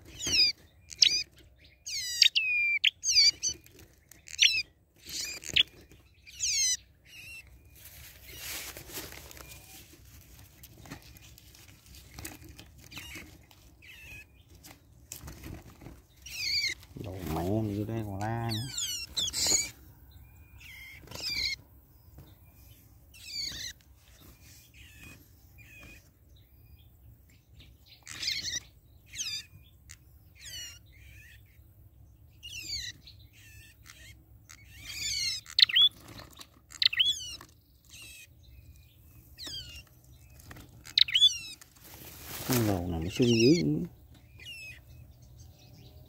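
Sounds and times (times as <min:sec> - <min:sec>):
small songbirds chirping: 0:00.0 - 0:46.0.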